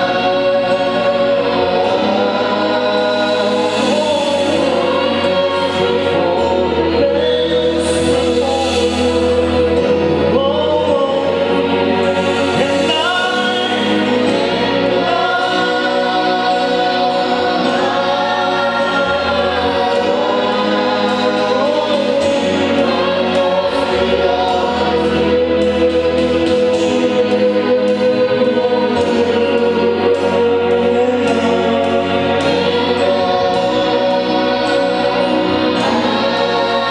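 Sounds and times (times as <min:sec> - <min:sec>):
choir singing gospel song: 0:00.0 - 0:36.9
low bass accompaniment: 0:00.0 - 0:36.9.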